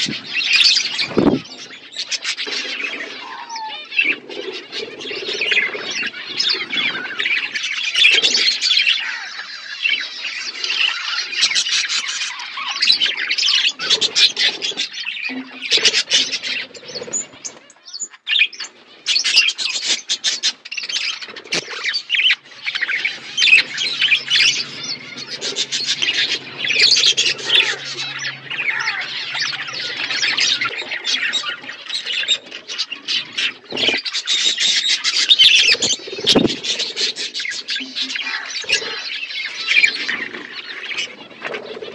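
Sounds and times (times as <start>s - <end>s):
budgerigars chattering and warbling: 0.0s - 41.9s.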